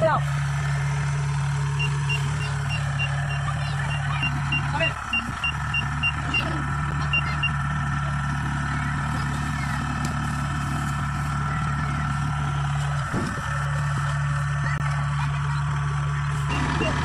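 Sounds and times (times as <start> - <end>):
combine harvester engine running: 0.0 - 17.0.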